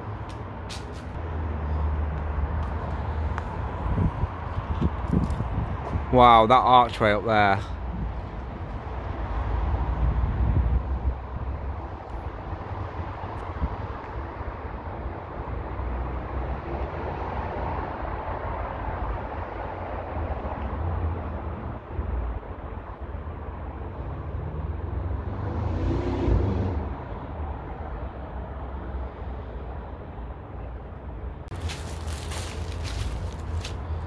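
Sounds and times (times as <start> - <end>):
city traffic rumble: 0.0 - 34.0.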